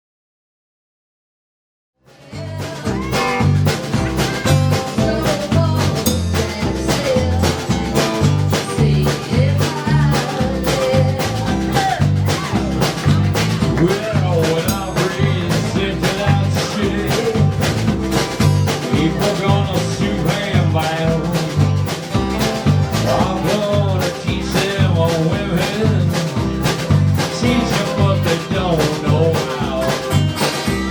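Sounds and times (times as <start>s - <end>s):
bass line: 2.0s - 30.9s
live band playing upbeat music: 2.1s - 30.9s
steady drum beat: 2.1s - 30.9s.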